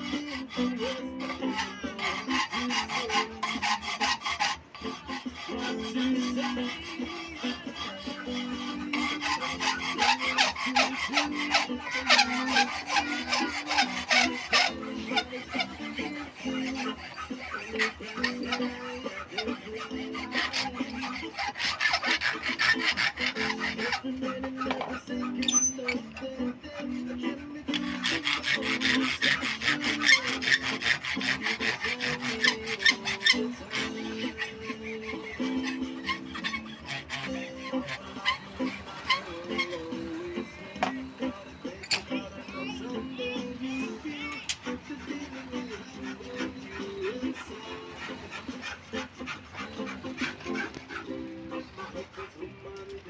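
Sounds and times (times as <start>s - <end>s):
file rasping on steel blade: 0.0s - 52.4s.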